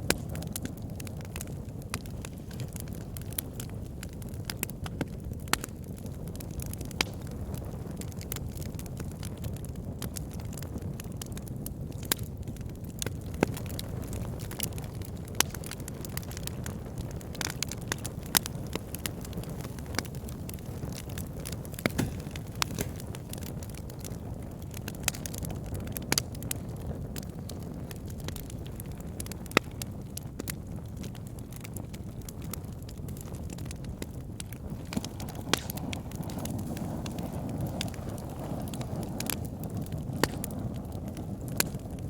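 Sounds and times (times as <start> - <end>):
low rush of flames: 0.0 - 42.0
wood crackling and popping: 0.0 - 42.0.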